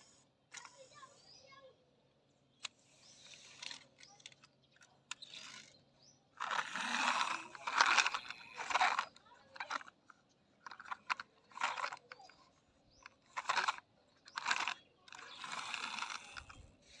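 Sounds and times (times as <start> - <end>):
plastic toy wheels scraping on tiles: 0.0 - 1.2, 2.8 - 4.5, 5.1 - 10.0, 10.6 - 17.0.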